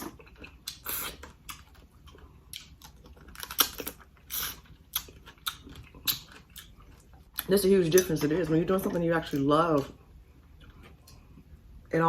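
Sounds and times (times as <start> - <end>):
person chewing food: 0.0 - 11.8.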